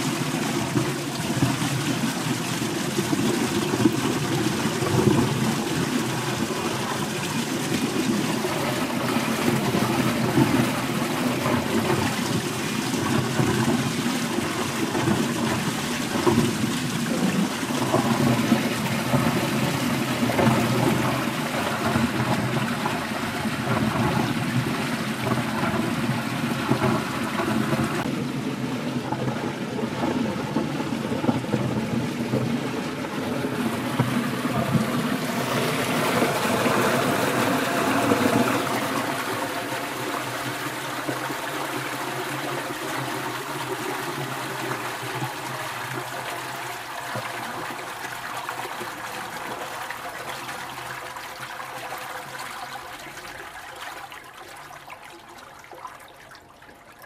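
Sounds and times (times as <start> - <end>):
water churning in a metal tank: 0.0 - 57.0.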